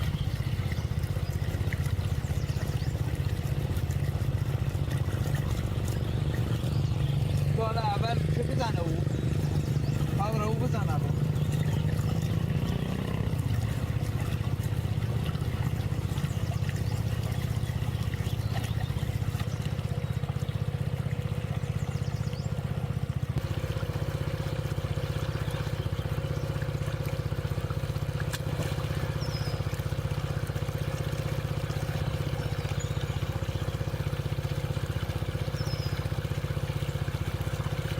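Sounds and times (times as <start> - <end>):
steady low hum: 0.0 - 37.9
water pouring and trickling: 0.0 - 37.9.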